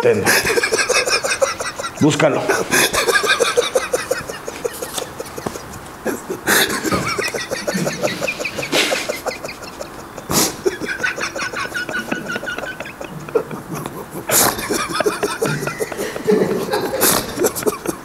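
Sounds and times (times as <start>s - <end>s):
man laughing hard: 0.0s - 18.0s.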